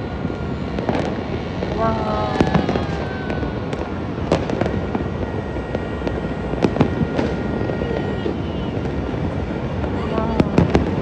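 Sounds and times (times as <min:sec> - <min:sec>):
fireworks crackling: 0:00.0 - 0:11.0
loud firework bangs: 0:00.0 - 0:11.0.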